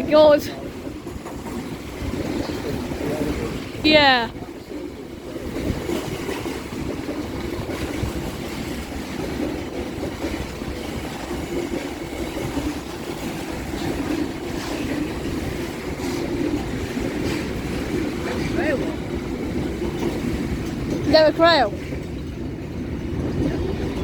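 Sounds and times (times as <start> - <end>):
train wheels rumbling on rails: 0.0 - 24.0
wheels clicking over rail joints: 0.0 - 24.0.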